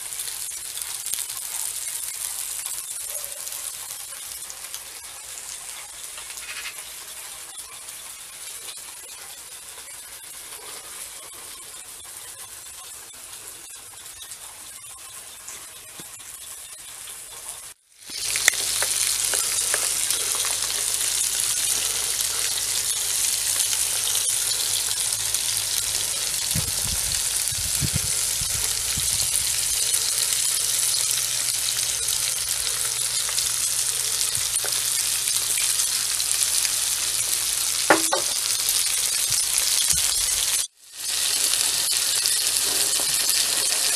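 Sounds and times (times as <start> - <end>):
seafood sizzling on a grill: 0.0 - 43.9.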